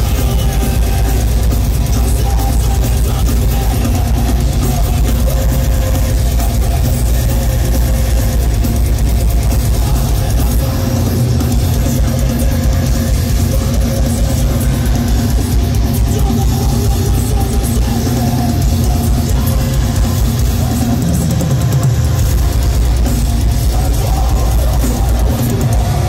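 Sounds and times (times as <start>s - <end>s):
live heavy metal band: 0.0s - 26.0s.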